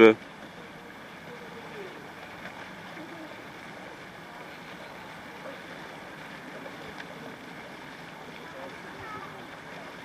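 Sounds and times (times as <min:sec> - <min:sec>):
distant voices: 0:00.0 - 0:10.0.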